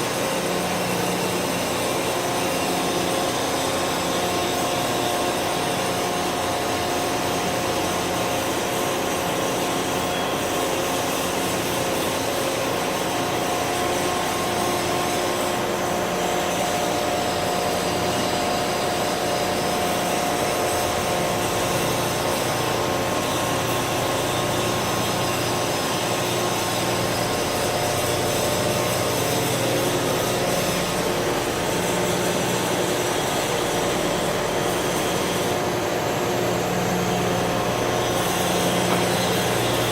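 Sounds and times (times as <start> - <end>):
industrial machinery hum: 0.0 - 39.9.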